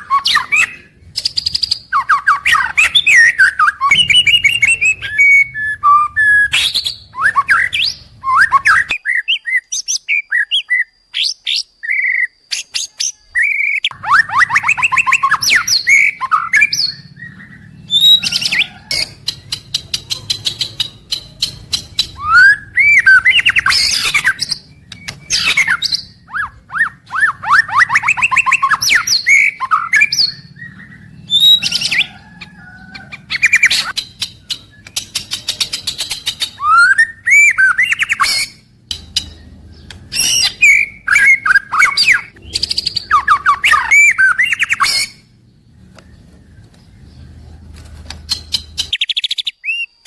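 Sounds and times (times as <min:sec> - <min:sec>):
bird singing varied phrases: 0:00.0 - 0:50.0.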